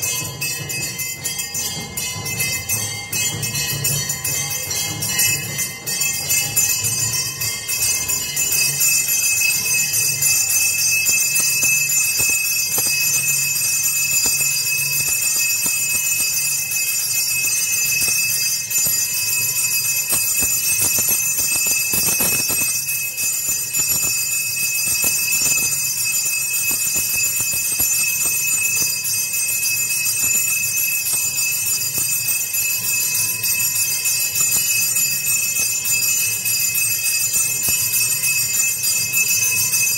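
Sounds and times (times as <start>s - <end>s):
temple bells ringing: 0.0s - 39.9s.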